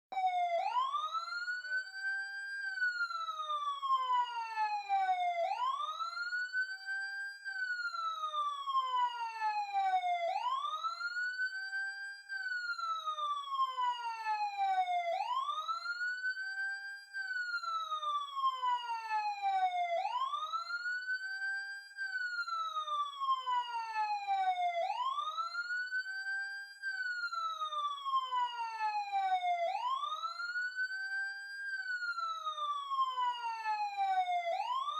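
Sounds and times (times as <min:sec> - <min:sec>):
police siren wailing: 0:00.1 - 0:34.9.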